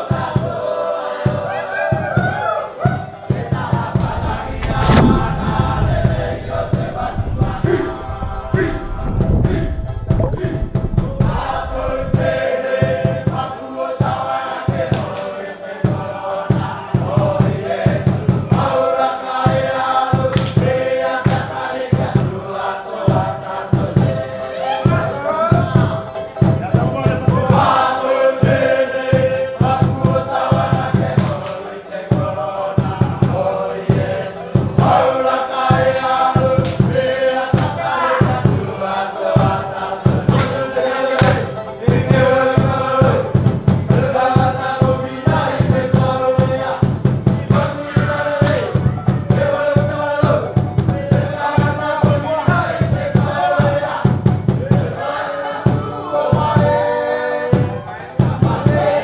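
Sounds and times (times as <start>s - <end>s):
group of voices singing: 0.0s - 59.0s.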